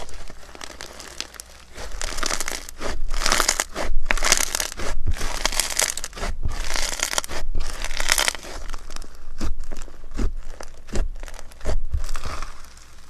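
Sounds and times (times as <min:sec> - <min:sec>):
slime crunching and crackling: 0:00.0 - 0:13.0.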